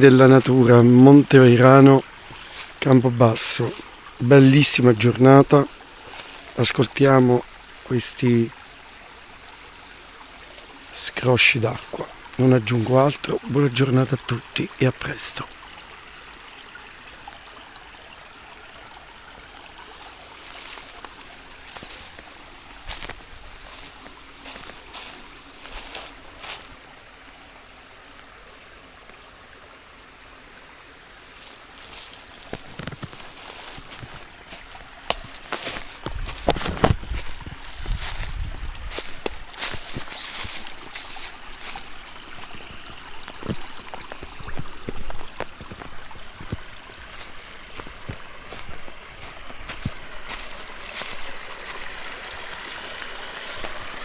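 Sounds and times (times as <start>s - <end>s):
running water gushing and splashing: 0.0s - 54.0s.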